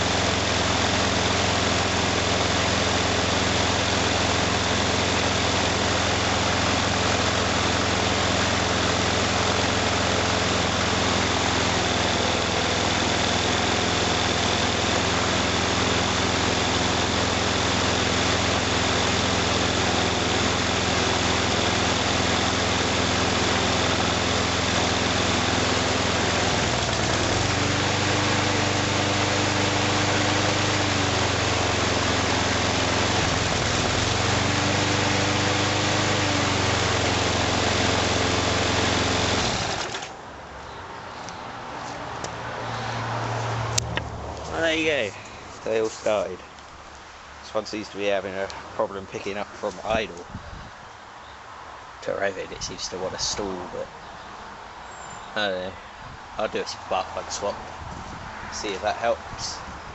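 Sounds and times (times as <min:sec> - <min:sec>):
lawn mower engines idling: 0:00.0 - 0:51.2, 0:51.8 - 0:57.8, 0:58.5 - 0:59.9.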